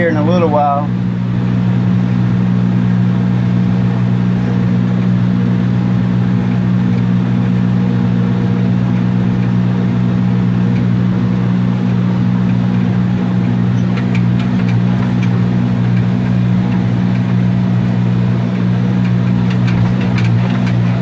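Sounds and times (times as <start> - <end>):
tractor diesel engine droning: 0.0 - 21.0.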